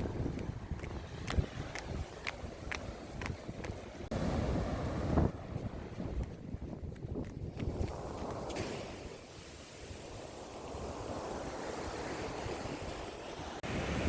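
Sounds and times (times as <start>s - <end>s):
sea waves washing ashore: 0.0s - 14.0s
wind rumbling on microphone: 0.0s - 14.0s.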